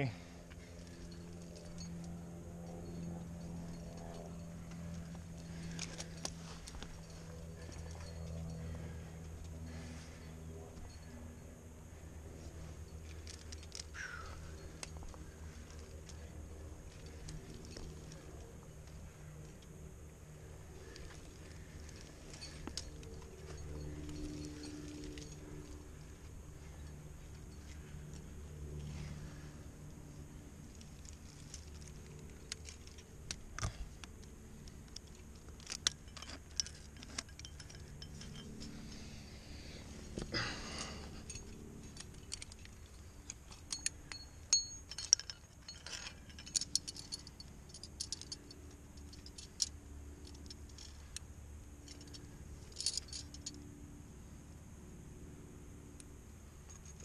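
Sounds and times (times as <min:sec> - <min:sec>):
climbing gear clinking: 0:00.0 - 0:53.8, 0:56.0 - 0:57.0.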